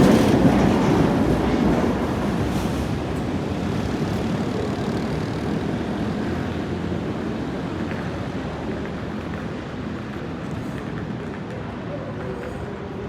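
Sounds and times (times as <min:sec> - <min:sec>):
tram rumble: 0:00.0 - 0:13.0.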